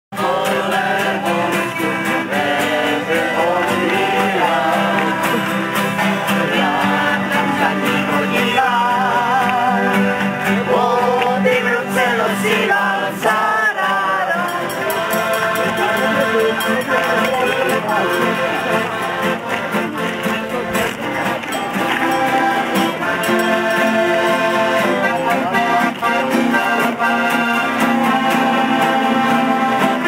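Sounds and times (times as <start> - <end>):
acoustic guitars: 0.1 - 30.0
voices singing along: 0.1 - 30.0
accordion: 0.2 - 30.0.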